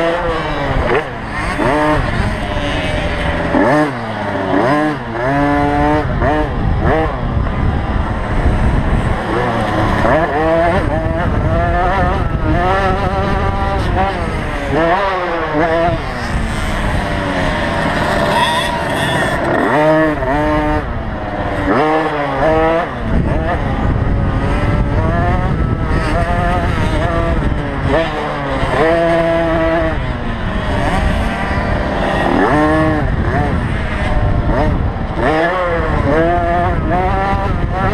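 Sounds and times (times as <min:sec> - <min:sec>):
two-stroke motocross engine revving: 0:00.0 - 0:37.9.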